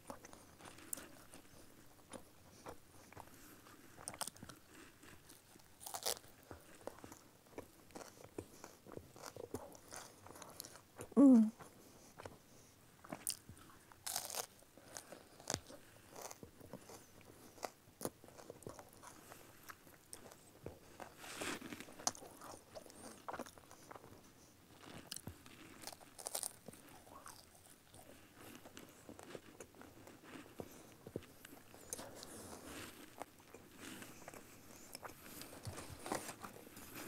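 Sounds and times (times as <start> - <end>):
crunching and chewing: 0.0 - 12.4, 13.0 - 37.0.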